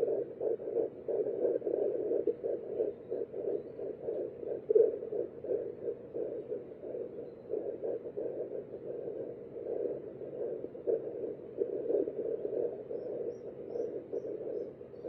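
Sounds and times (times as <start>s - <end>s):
fetal heartbeat on doppler: 0.0s - 15.0s.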